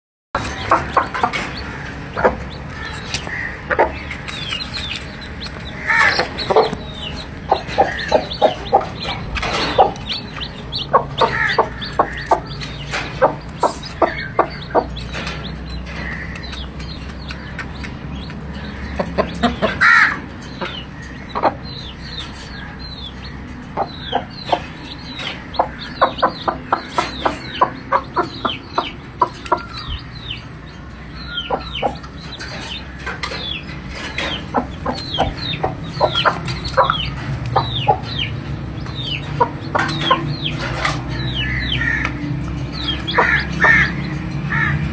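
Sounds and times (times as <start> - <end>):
chick peeps: 0.4 - 42.2
chickens clucking: 0.4 - 44.9.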